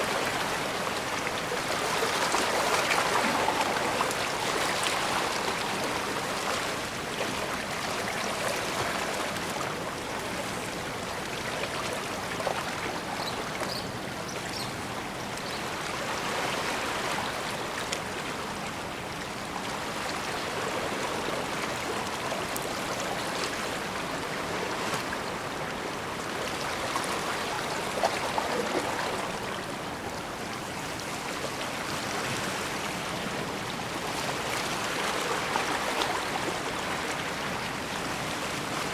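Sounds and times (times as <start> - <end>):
water washing along shore: 0.0 - 14.2, 14.8 - 38.9.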